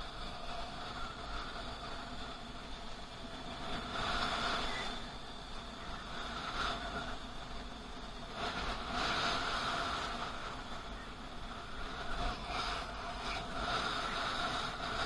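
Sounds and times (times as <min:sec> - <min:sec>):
rushing noise: 0:00.0 - 0:15.0
wind rumble on microphone: 0:00.0 - 0:15.0.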